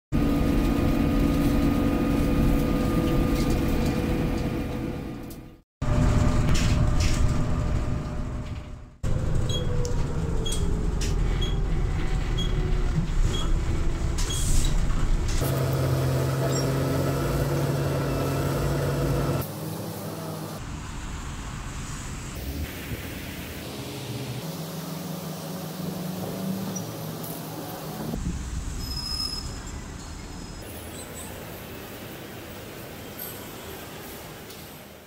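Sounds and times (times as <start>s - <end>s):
road noise: 0.1s - 35.0s
bus engine drone: 0.2s - 29.0s
traffic noise: 0.2s - 35.0s.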